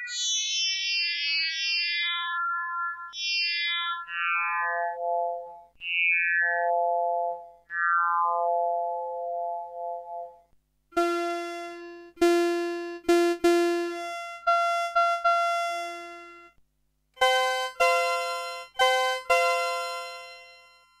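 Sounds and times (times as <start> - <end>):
synthesizer notes: 3.2 - 16.6, 17.2 - 20.6.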